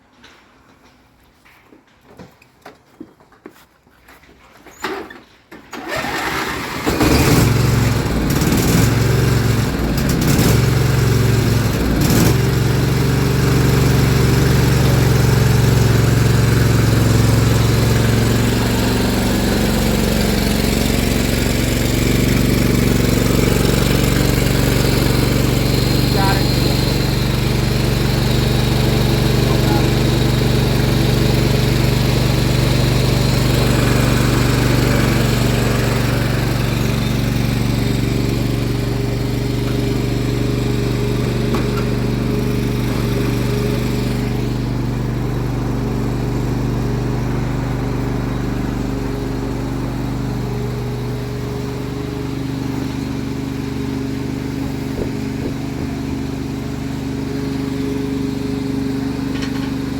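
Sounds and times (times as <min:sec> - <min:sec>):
engine idling: 0:05.8 - 0:59.9.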